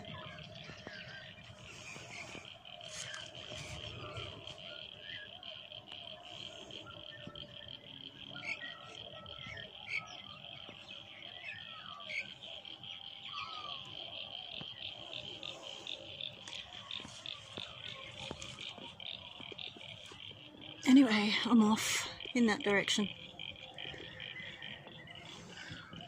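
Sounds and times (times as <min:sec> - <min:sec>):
chorus of small calling animals: 0:00.0 - 0:26.0.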